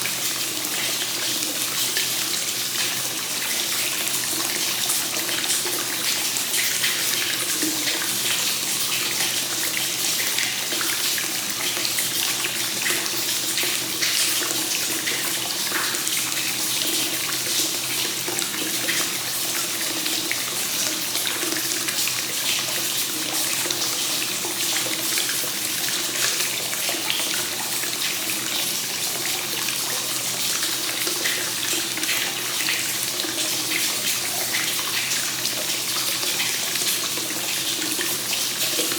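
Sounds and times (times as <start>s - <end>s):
water pouring into a bath: 0.0s - 38.9s.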